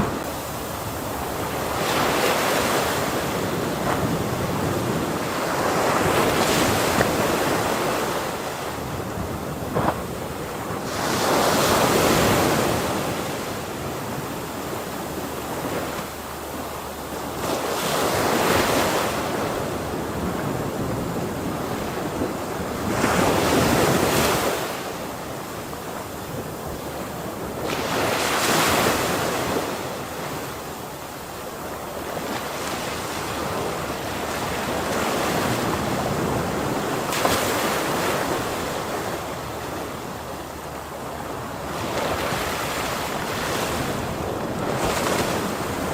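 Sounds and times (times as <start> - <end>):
ocean waves breaking: 0.0 - 45.9
wind rumble on microphone: 0.0 - 45.9.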